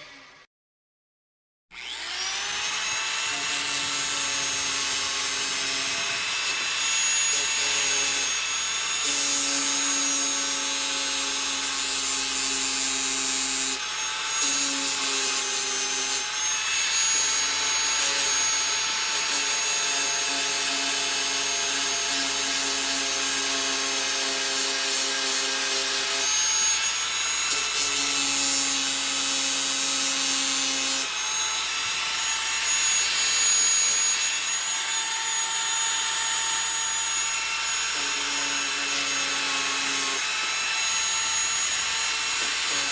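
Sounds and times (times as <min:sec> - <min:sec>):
power tool motor whining: 0:01.7 - 0:42.9.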